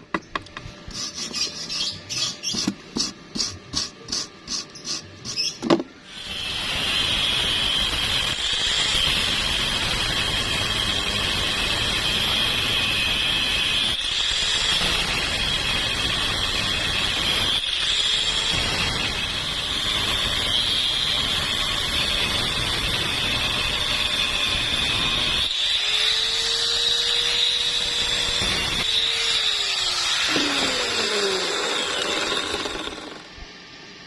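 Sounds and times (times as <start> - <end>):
power tool whining: 5.3 - 33.6.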